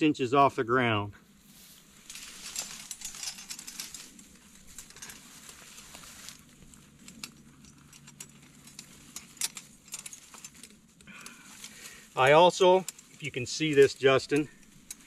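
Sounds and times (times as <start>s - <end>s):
dry grass rustling: 1.3s - 15.0s.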